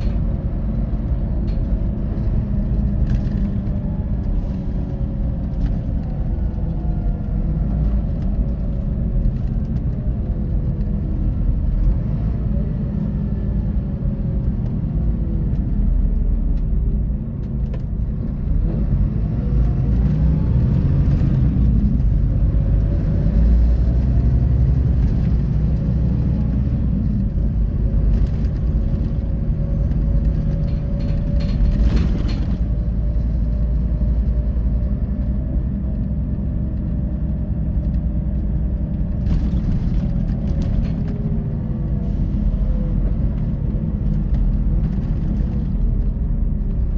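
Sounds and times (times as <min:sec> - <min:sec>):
diesel coach engine droning: 0:00.0 - 0:46.9.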